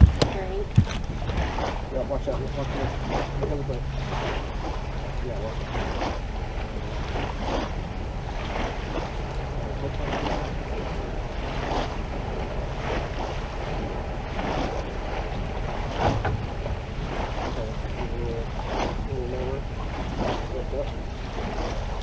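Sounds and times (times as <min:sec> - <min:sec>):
outboard motor running: 0:00.0 - 0:22.0
water splashing against hull: 0:00.0 - 0:22.0
wind noise on microphone: 0:00.0 - 0:22.0.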